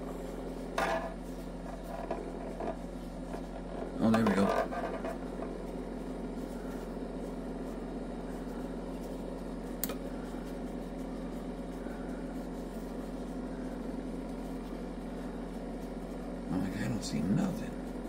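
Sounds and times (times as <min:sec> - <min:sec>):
cotton candy machine motor hum: 0:00.0 - 0:18.0.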